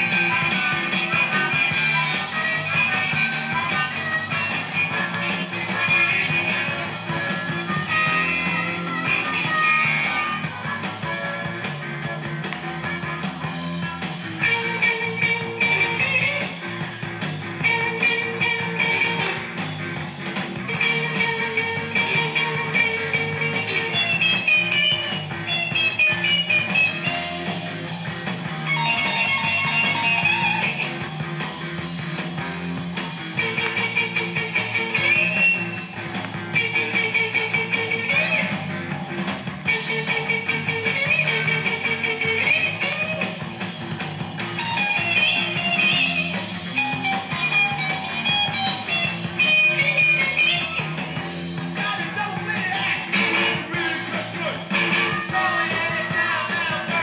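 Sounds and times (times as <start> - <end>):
rock music with guitar: 0.0 - 57.0.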